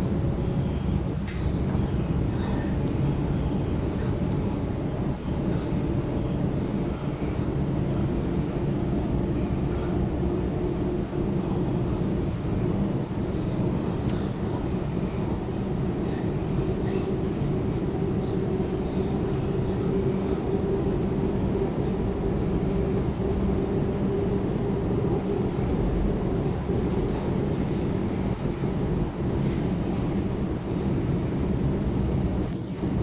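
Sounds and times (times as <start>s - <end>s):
electric train rumble: 0.0s - 33.0s.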